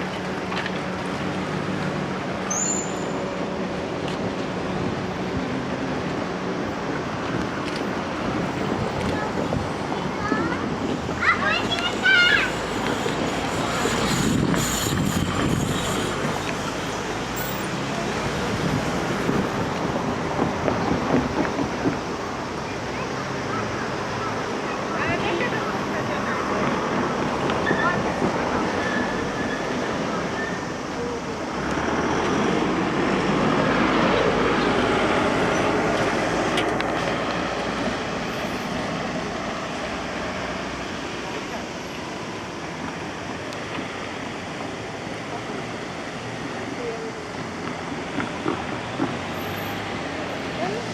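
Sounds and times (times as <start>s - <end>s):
passing vehicles rumbling: 0.0s - 50.9s.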